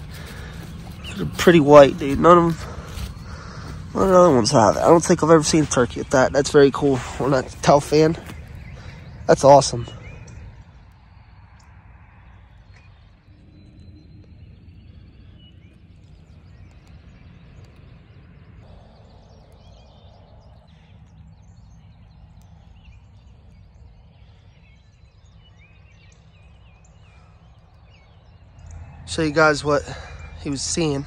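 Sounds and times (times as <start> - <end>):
low rumble: 0.0 - 31.0
songbirds chirping: 0.0 - 31.0.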